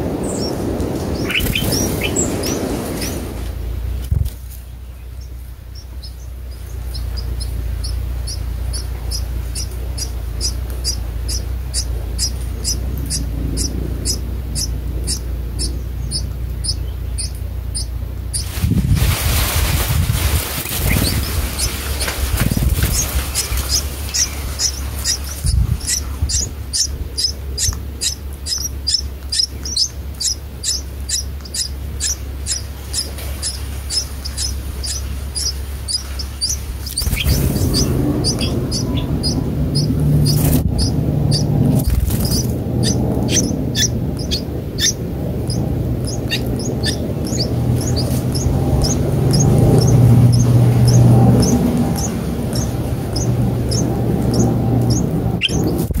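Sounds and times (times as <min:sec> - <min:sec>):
low steady hum: 0:00.0 - 0:56.0
nestlings chirping: 0:00.0 - 0:56.0.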